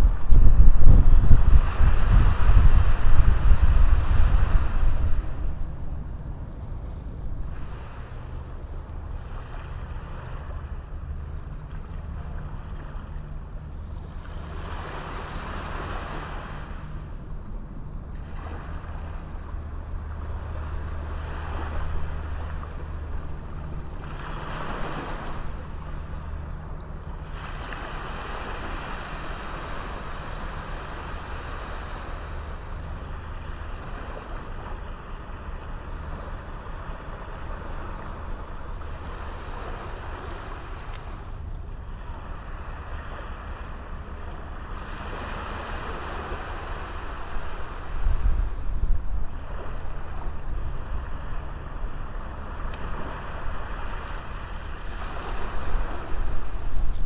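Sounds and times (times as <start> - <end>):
low rumble of surf: 0.0 - 57.0
sea waves breaking on beach: 0.0 - 57.0.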